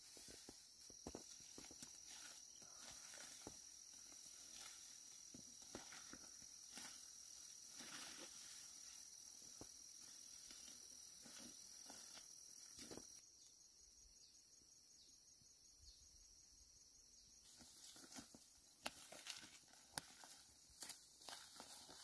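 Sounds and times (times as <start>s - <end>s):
footsteps through dry grass: 0.0s - 13.2s, 17.5s - 22.0s
insect whine: 0.0s - 22.0s.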